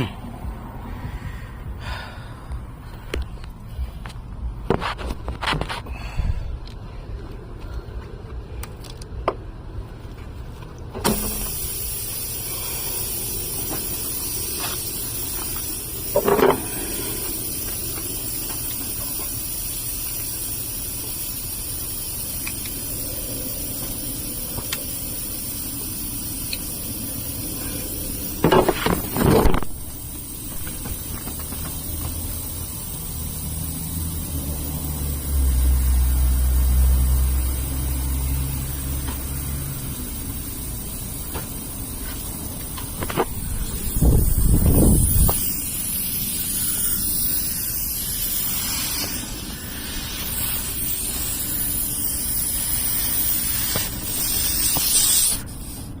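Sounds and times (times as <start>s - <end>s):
compressed air hissing: 11.0s - 56.0s.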